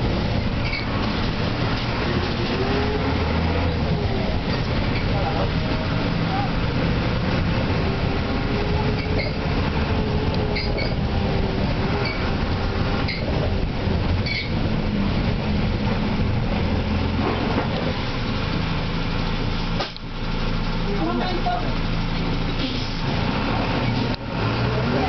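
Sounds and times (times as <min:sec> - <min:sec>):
tyre and road rumble: 0:00.0 - 0:25.0
vehicle engine running: 0:00.0 - 0:25.0.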